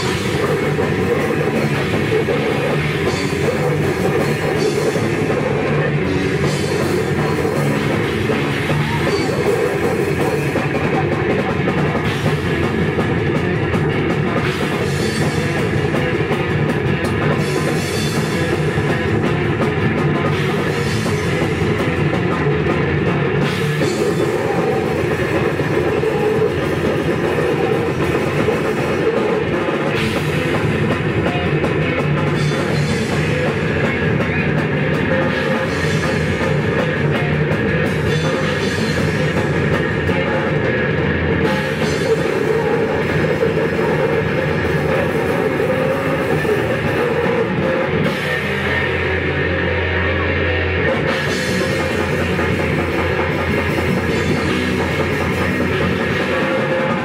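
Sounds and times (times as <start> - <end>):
drum kit with cymbals: 0.0 - 57.0
electric bass: 0.0 - 57.0
electric guitar: 0.0 - 57.0.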